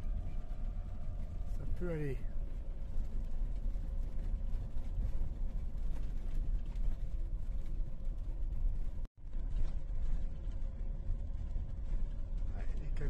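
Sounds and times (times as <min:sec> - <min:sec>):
engine and tyres rumbling: 0:00.0 - 0:13.0.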